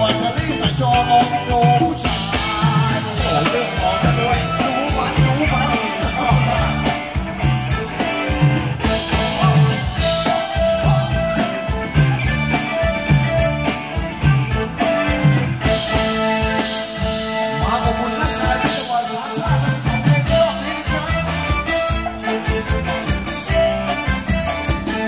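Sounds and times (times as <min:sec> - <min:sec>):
drum kit beat: 0:00.0 - 0:25.0
electric guitar melody: 0:00.0 - 0:25.0
live band dance music: 0:00.0 - 0:25.0.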